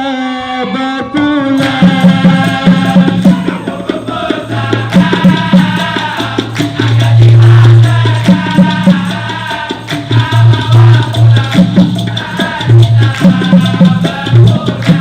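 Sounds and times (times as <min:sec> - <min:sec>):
male chorus singing: 0:00.0 - 0:15.0
hand percussion: 0:01.2 - 0:15.0
rattling shakers: 0:01.6 - 0:15.0.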